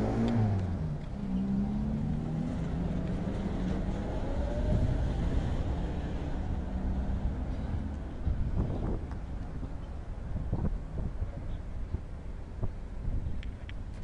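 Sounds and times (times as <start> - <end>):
street rumble of vehicles: 0.0 - 14.0.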